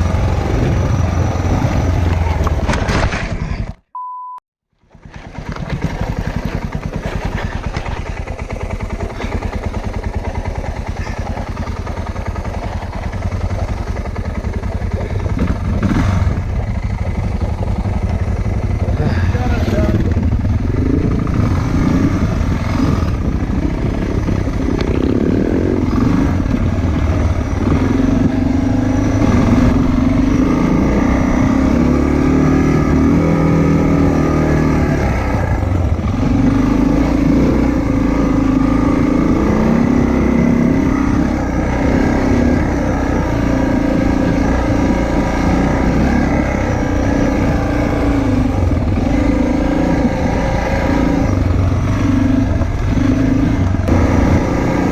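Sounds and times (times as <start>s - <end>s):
motorcycle engine running: 0.0s - 3.9s, 4.8s - 54.9s.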